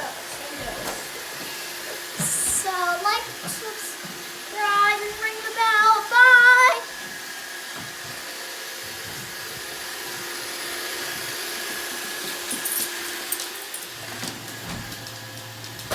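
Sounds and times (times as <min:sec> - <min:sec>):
robot vacuum whirring: 0:00.0 - 0:15.9.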